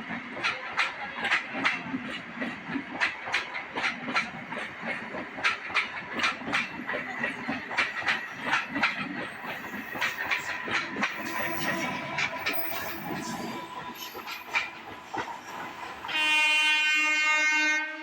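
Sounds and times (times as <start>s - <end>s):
train wheels clacking over rail joints: 0.0s - 17.3s
train rumble: 0.0s - 18.0s.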